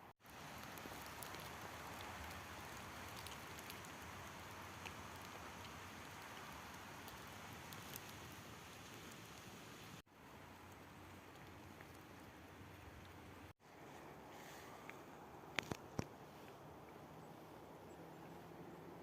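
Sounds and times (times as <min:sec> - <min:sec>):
small ticks and patters: 0:00.2 - 0:13.5, 0:14.4 - 0:17.4
forest ambience hiss: 0:00.2 - 0:19.0.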